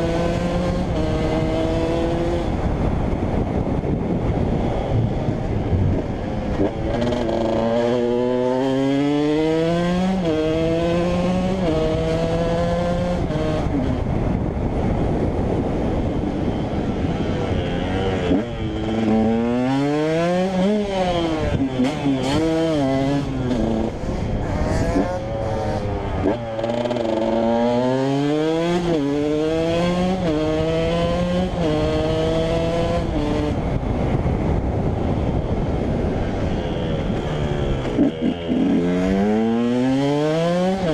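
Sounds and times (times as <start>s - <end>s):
two-stroke engine accelerating: 0.0s - 40.9s.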